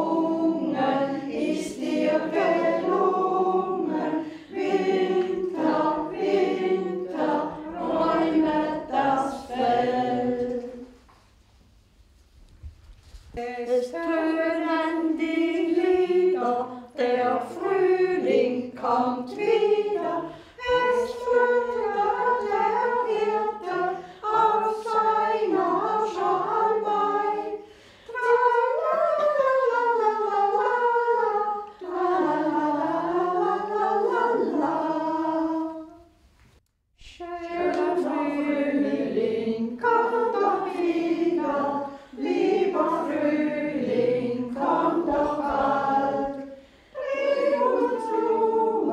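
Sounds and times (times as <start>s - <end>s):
elderly people singing together: 0.0s - 11.1s, 13.4s - 36.2s, 37.0s - 48.9s.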